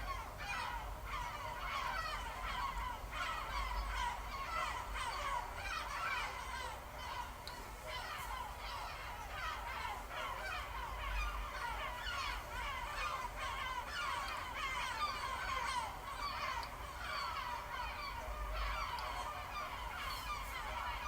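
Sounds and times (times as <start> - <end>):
seagulls calling: 0.0 - 21.0.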